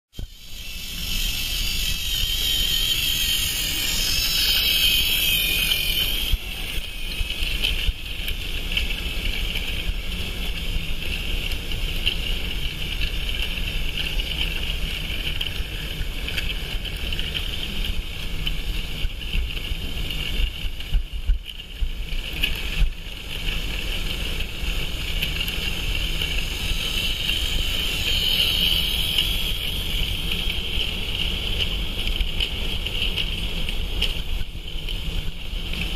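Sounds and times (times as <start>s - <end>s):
toy train motor whine: 0.2s - 35.9s.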